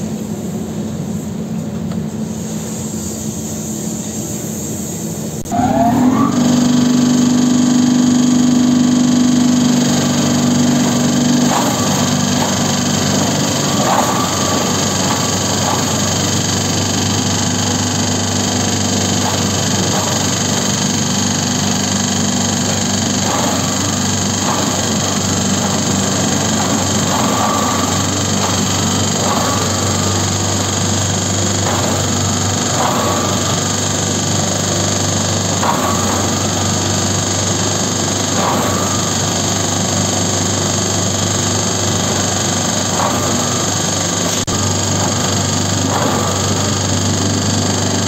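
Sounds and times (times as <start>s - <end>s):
shredder motor humming: 5.4s - 48.0s
shredder grinding vegetable waste: 5.5s - 48.0s.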